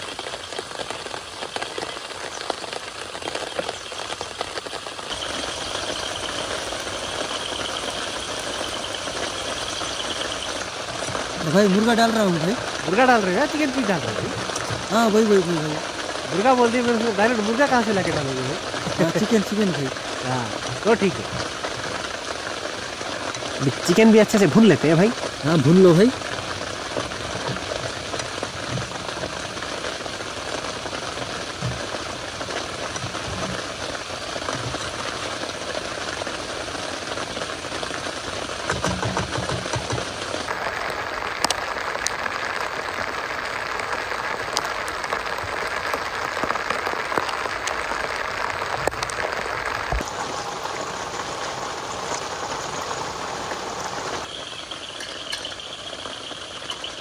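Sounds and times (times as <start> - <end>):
chicken sizzling in a pan: 0.0 - 57.0
rain hissing: 0.0 - 57.0.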